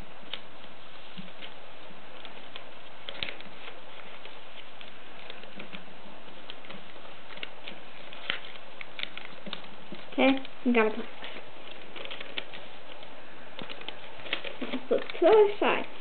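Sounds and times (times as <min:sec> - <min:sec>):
paper being folded and creased: 0:00.0 - 0:16.0.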